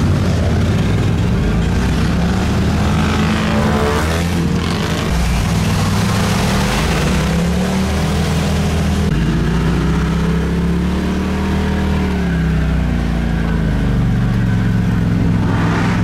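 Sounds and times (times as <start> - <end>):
engines revving: 0.0 - 16.0.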